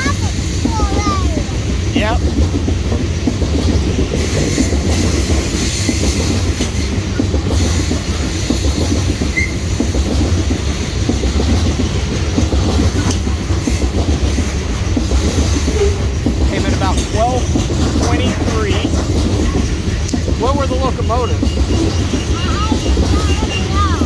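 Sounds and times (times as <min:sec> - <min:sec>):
freight cars clattering: 0:00.0 - 0:24.0
freight train wheels rumbling: 0:00.0 - 0:24.0.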